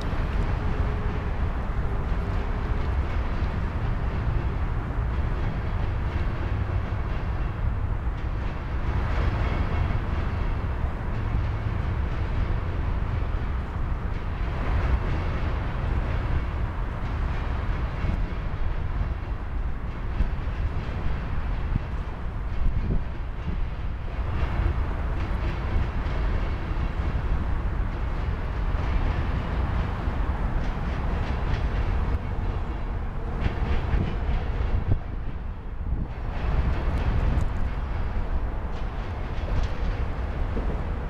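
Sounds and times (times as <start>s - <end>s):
steel wheels rumbling on rail: 0.0s - 41.0s
train wheel clacks: 0.0s - 41.0s.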